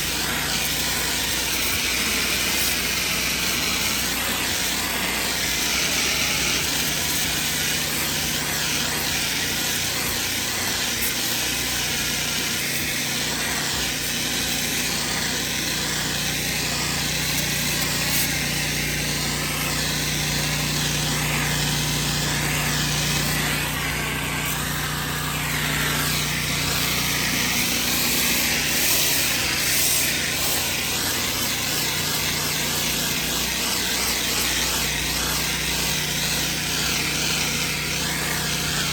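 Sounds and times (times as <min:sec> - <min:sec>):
high-pressure water spray hissing: 0:00.0 - 0:38.9
pressure washer engine humming: 0:00.0 - 0:38.9.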